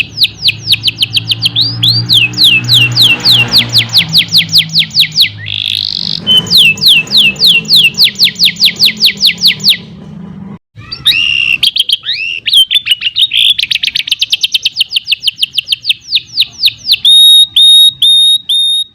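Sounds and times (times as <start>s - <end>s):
canary singing trills and whistles: 0.0s - 9.9s, 10.8s - 18.9s.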